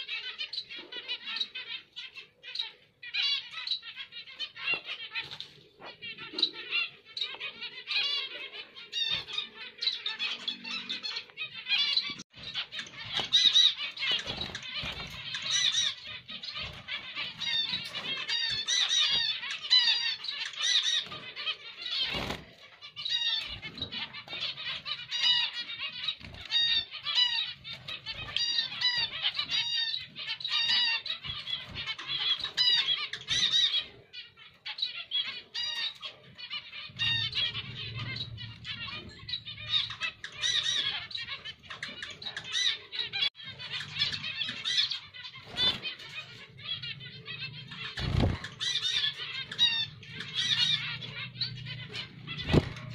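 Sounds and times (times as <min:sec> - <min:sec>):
finches chirping: 0:00.0 - 0:52.9.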